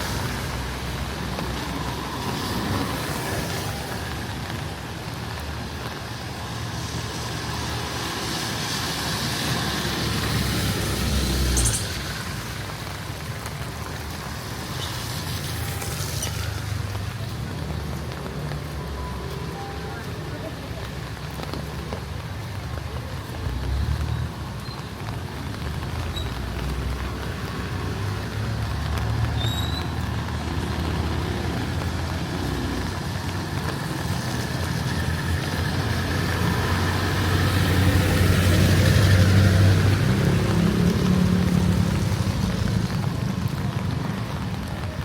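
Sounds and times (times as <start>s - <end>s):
vehicle engines running: 0.0s - 45.0s.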